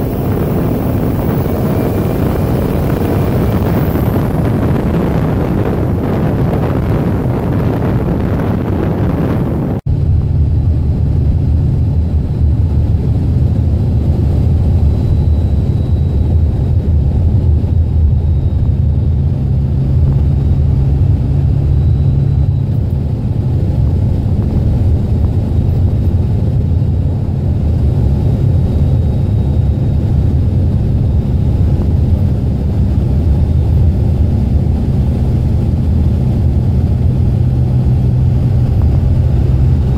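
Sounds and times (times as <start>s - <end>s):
diesel engine and road rumble: 0.0s - 39.9s
wind noise: 0.0s - 39.9s.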